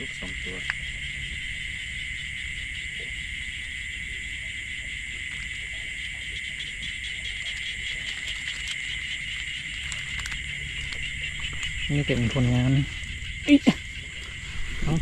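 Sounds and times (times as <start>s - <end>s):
insects trilling: 0.0s - 15.0s
low background rumble: 0.0s - 15.0s.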